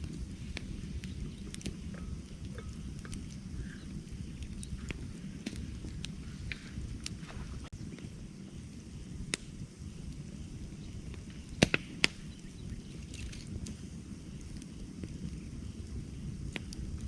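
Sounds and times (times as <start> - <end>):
burning wood popping: 0.0 - 17.0
campfire crackling: 0.0 - 17.0.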